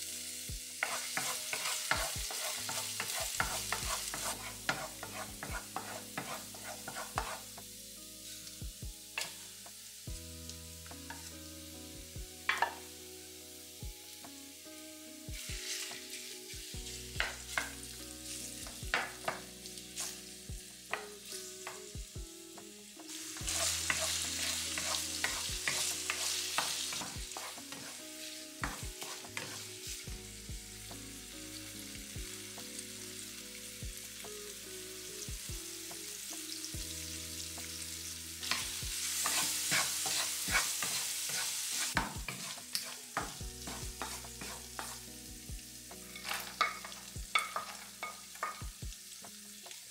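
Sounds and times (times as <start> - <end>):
chicken sizzling in frying pan: 0.0 - 49.9.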